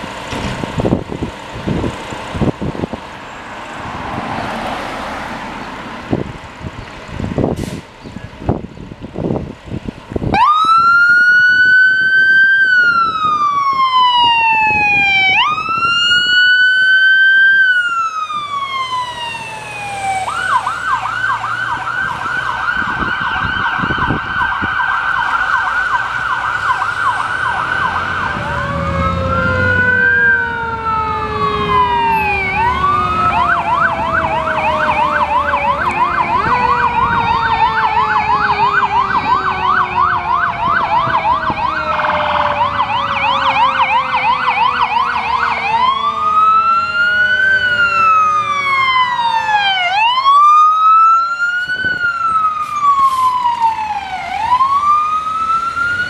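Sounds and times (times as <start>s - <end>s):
fire engine siren wailing and yelping: 9.2s - 56.0s
lower falling siren tone: 10.3s - 56.0s.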